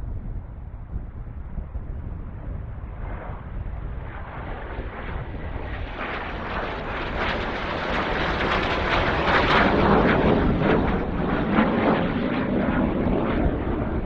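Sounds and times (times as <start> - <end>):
jet aircraft approaching: 0.0 - 14.0.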